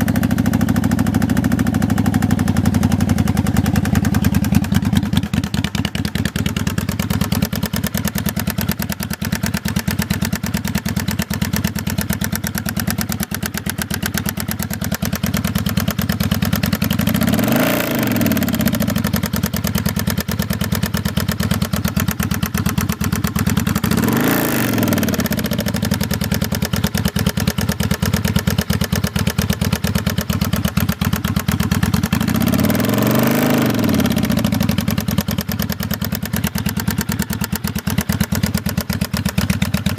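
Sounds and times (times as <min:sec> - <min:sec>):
engine ticking clatter: 0:00.0 - 0:39.9
motorcycle engine idling: 0:00.0 - 0:39.9.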